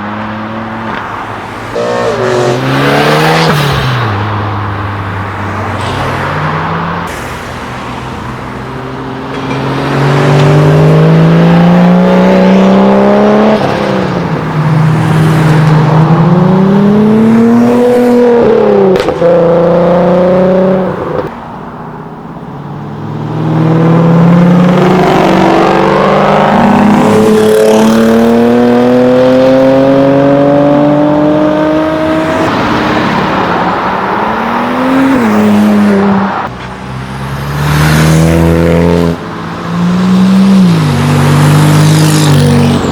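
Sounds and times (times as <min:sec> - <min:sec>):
cars accelerating hard: 0:00.0 - 0:21.3, 0:22.9 - 0:42.9.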